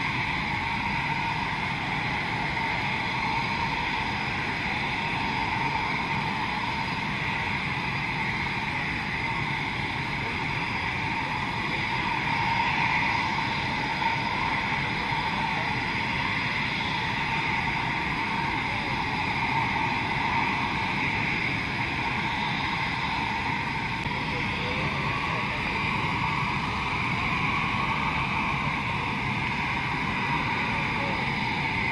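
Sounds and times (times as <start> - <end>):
jet engines idling: 0.0 - 31.9.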